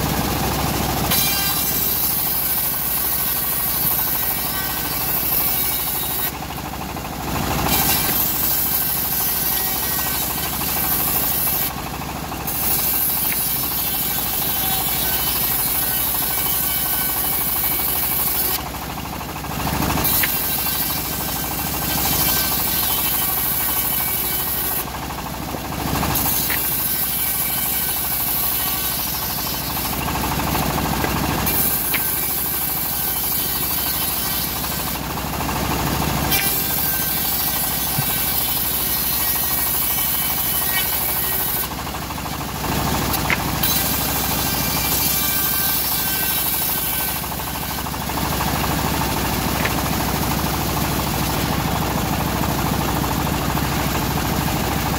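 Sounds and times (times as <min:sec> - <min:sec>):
saw blade cutting through wood: 0:00.0 - 0:18.7, 0:19.6 - 0:51.5
bandsaw mill drone: 0:00.0 - 0:54.9.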